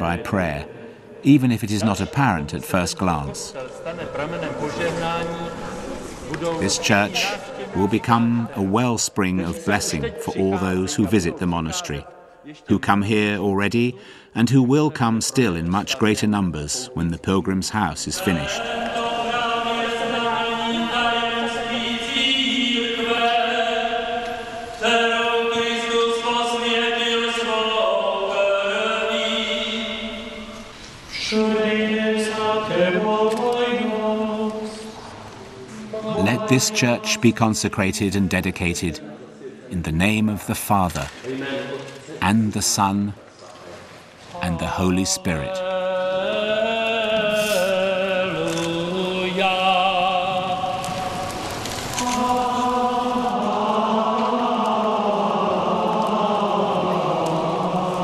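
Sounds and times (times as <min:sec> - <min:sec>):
monks chanting: 0:00.0 - 0:12.1, 0:17.9 - 0:39.9, 0:40.9 - 0:58.0.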